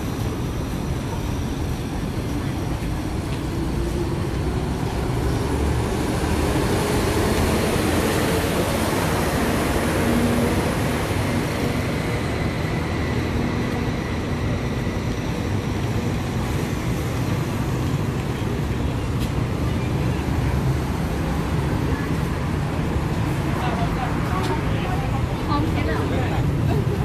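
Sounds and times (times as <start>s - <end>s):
city traffic rush: 0.0s - 27.0s.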